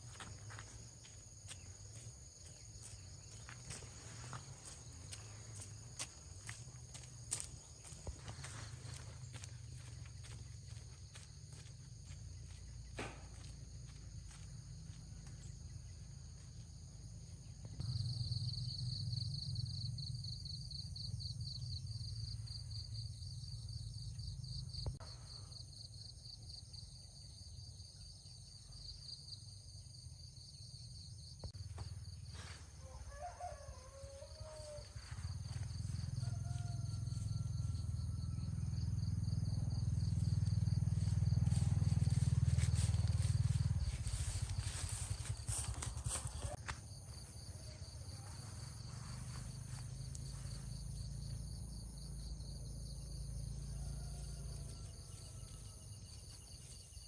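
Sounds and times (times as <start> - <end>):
insects trilling: 0.0 - 57.0
pulsing insect trill: 0.0 - 57.0.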